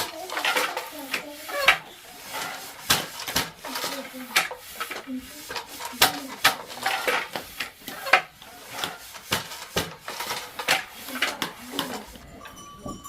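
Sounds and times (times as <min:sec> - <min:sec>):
hard objects knocking and clattering: 0:00.0 - 0:13.0.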